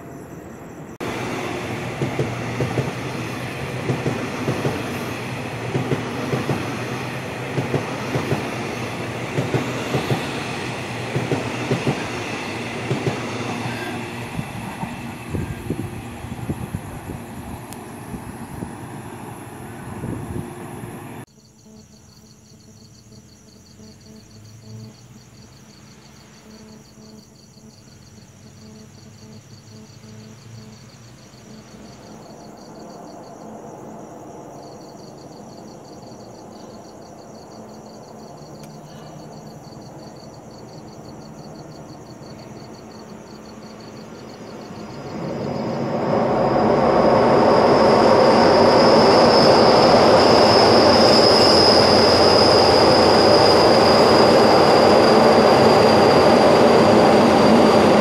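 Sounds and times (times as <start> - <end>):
approaching train: 0.0 - 21.3, 23.1 - 58.0
train running: 0.0 - 21.3, 28.6 - 58.0
night insects trilling: 0.0 - 58.0.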